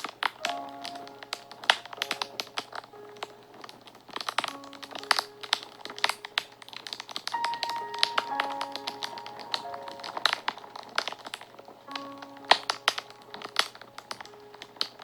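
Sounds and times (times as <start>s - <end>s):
soft music of held notes: 0.0s - 15.0s
wood fire crackling: 0.0s - 15.0s.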